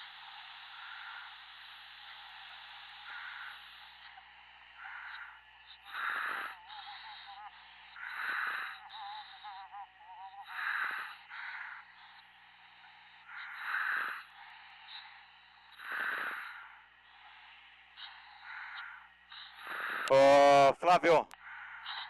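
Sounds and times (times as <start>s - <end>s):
diver breathing through helmet: 0.0s - 9.5s, 10.5s - 20.1s
steady radio hum: 0.0s - 22.0s.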